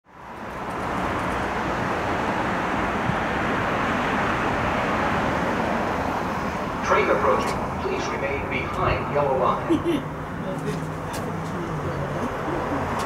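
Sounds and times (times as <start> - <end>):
road traffic rushing: 0.0 - 13.0.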